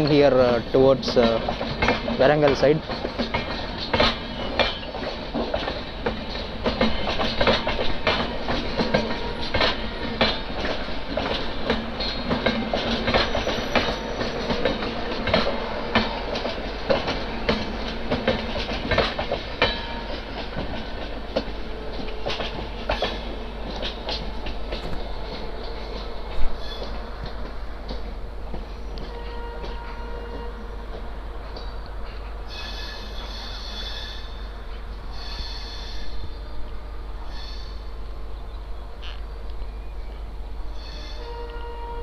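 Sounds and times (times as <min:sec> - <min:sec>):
train wheels clicking over rail joints: 0:00.0 - 0:36.3
train rumble: 0:00.0 - 0:42.0.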